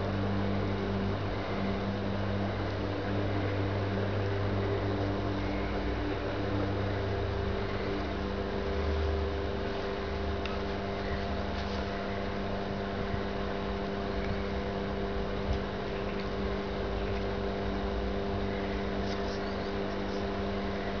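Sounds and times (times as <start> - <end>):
mechanical drone: 0.0 - 21.0.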